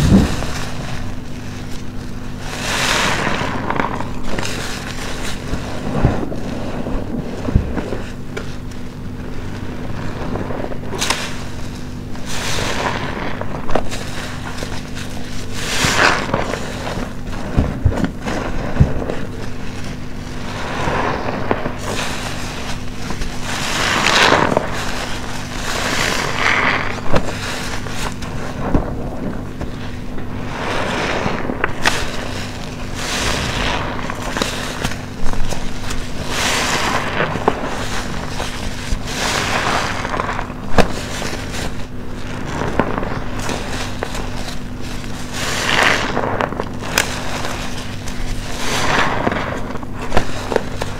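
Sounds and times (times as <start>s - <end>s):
soapy sponge squelching: 0.0s - 50.9s.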